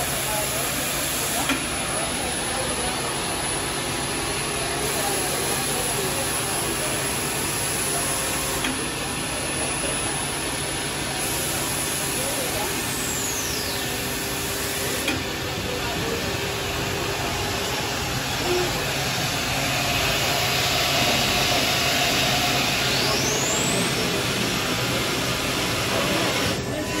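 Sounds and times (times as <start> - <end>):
robotic drilling machine hiss: 0.0 - 15.2, 16.1 - 27.0.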